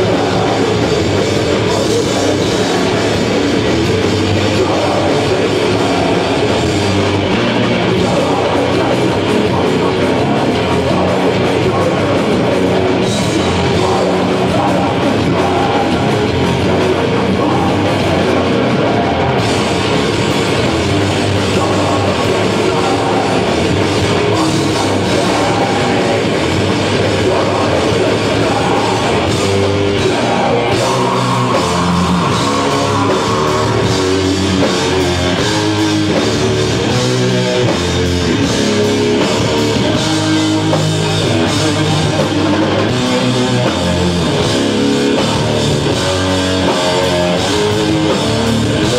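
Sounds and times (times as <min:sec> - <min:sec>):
bass guitar: 0:00.0 - 0:48.9
distorted electric guitar: 0:00.0 - 0:48.9
drum kit: 0:00.0 - 0:48.9.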